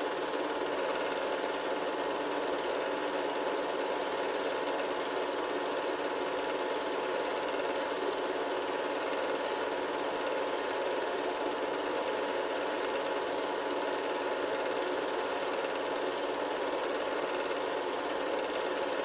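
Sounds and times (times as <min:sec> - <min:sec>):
film projector whirring clatter: 0:00.0 - 0:19.0.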